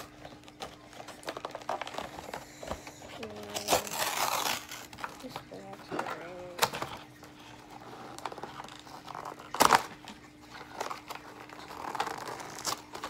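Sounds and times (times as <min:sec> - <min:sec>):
loud packaging crackle: 0:00.0 - 0:13.0
toy packaging rustling and crinkling: 0:00.0 - 0:13.0.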